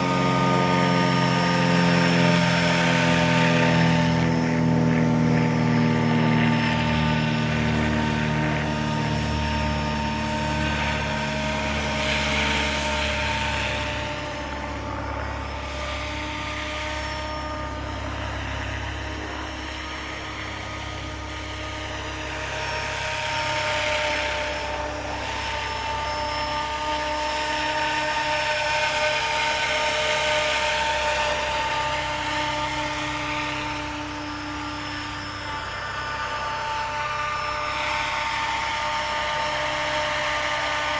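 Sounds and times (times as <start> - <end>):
model helicopter rotor whine: 0.0 - 40.9.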